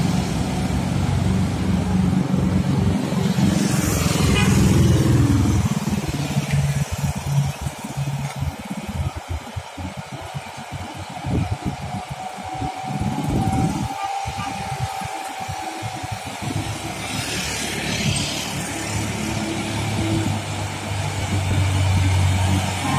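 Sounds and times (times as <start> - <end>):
motorcycles passing: 0.0 - 22.9
truck diesel engine: 0.0 - 22.9.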